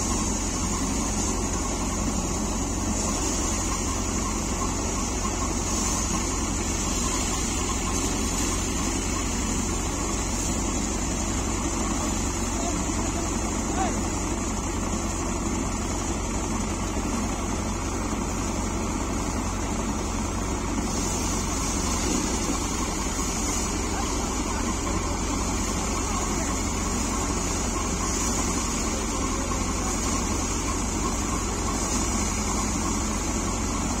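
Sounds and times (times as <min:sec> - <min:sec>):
thresher machine drone: 0:00.0 - 0:34.0
tractor engine: 0:00.0 - 0:34.0.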